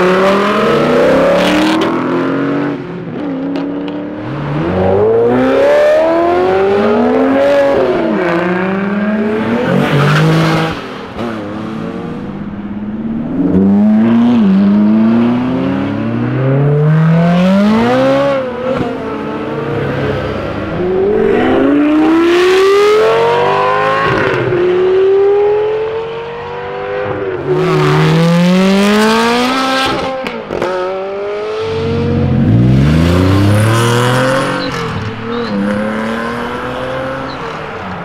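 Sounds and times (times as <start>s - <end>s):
sports car engines accelerating: 0.0s - 38.0s.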